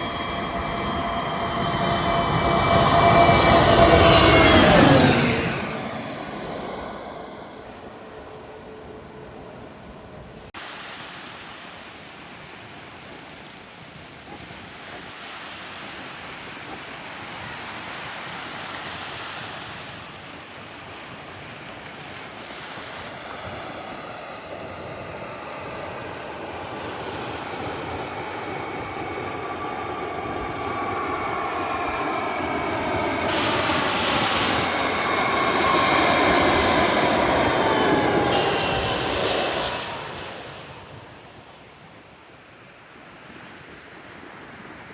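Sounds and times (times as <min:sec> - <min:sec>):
jet airliner engine whine: 0:00.0 - 0:44.9.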